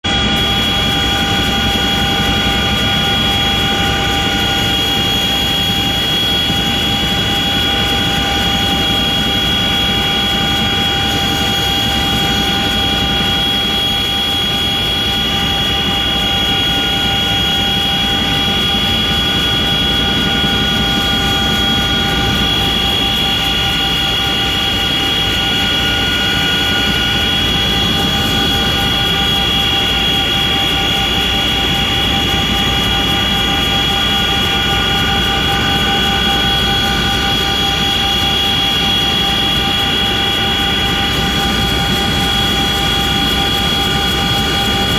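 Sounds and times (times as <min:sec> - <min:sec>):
aircraft engine whine: 0:00.0 - 0:44.9.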